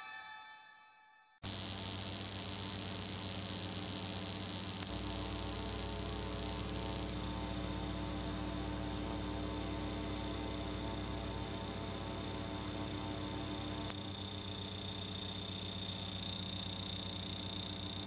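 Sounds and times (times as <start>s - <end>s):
electrical mains hum: 1.4s - 18.0s
faint high whine: 1.4s - 18.0s.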